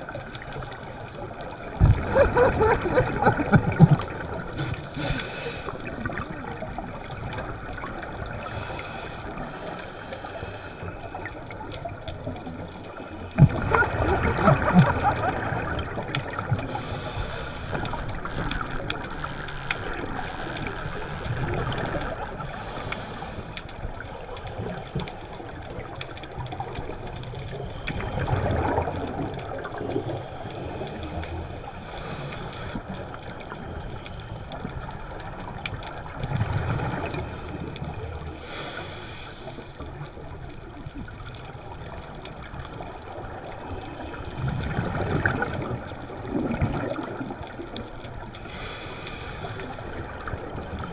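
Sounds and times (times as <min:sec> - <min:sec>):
regulator bubbles underwater: 0:00.0 - 0:50.9.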